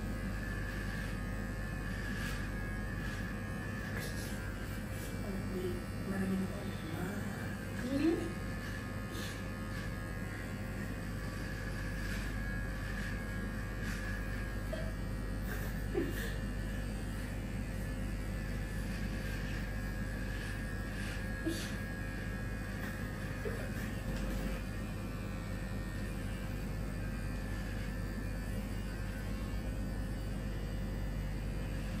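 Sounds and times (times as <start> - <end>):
electric hair clippers buzzing: 0.0 - 32.0.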